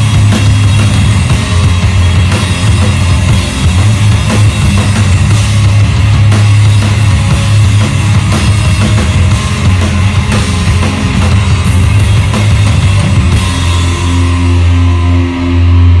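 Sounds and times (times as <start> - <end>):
distorted electric guitars: 0.0 - 16.0
pounding drum kit: 0.0 - 16.0.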